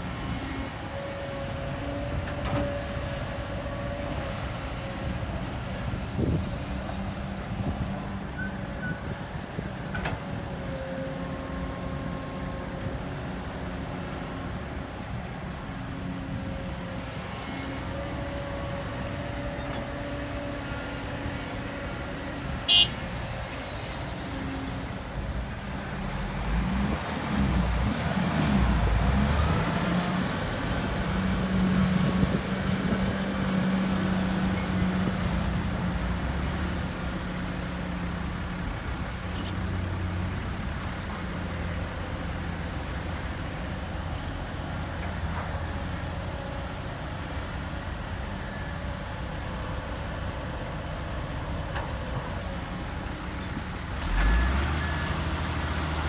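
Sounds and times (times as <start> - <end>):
heavy diesel engine under load: 0.0 - 56.0.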